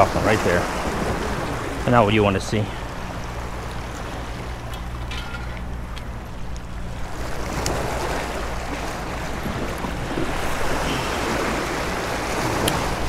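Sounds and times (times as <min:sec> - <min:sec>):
surf washing against boulders: 0:00.0 - 0:05.8, 0:06.6 - 0:13.0
wind buffeting microphone: 0:00.0 - 0:13.0.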